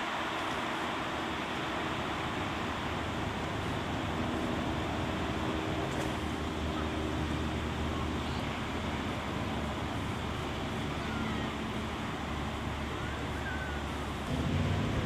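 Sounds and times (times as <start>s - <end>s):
car road noise: 0.0s - 15.0s
low engine hum: 0.0s - 15.0s.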